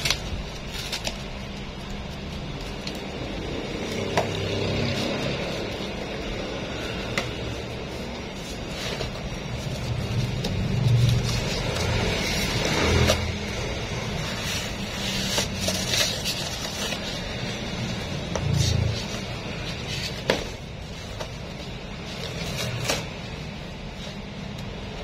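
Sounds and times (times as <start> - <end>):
cardboard scraping and rustling: 0.0 - 25.0.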